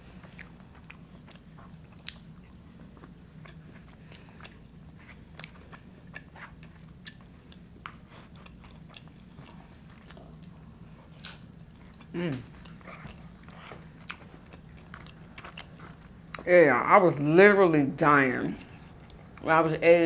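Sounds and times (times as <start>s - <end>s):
faint low hum: 0.0s - 20.0s
person chewing crunchy food: 0.1s - 16.5s.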